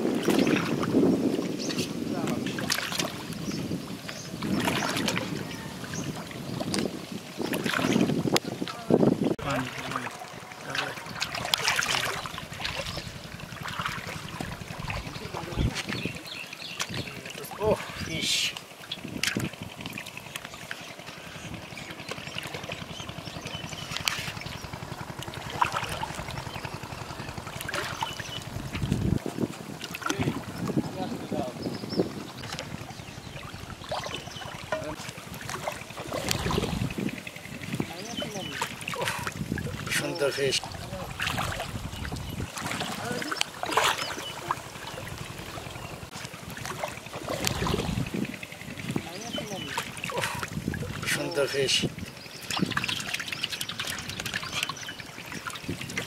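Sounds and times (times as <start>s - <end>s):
water sloshing and splashing: 0.0s - 56.0s.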